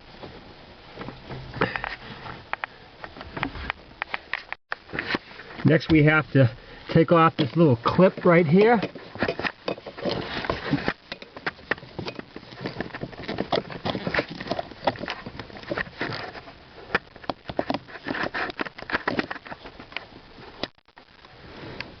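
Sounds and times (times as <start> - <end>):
handling noise: 0.0 - 21.3.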